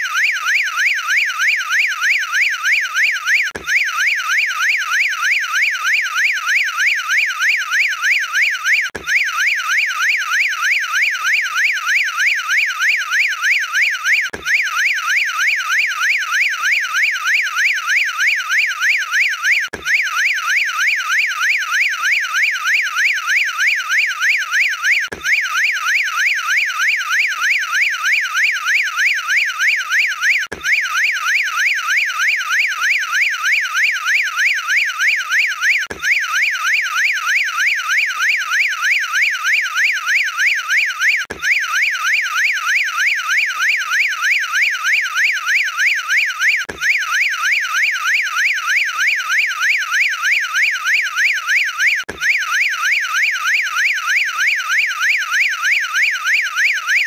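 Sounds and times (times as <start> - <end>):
warbling alarm siren: 0.0 - 57.0.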